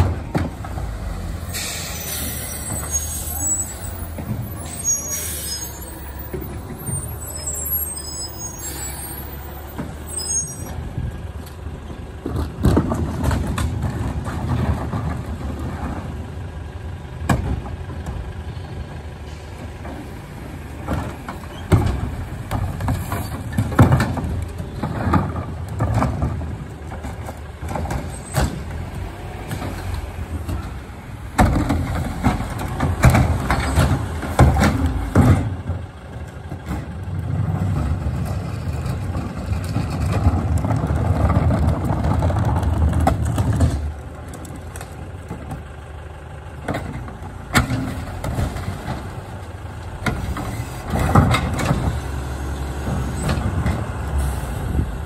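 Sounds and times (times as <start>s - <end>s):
garbage truck engine droning: 0.0s - 55.0s.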